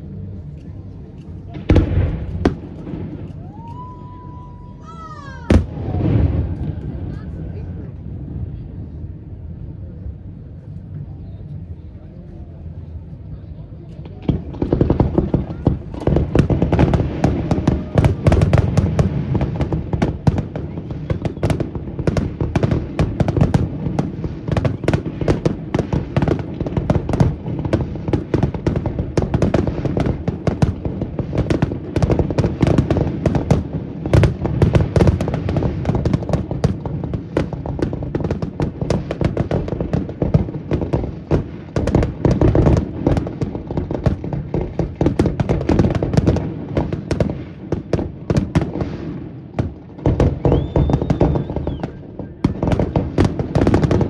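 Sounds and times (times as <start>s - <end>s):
fireworks bursting and crackling: 0.0s - 9.3s, 12.7s - 54.0s.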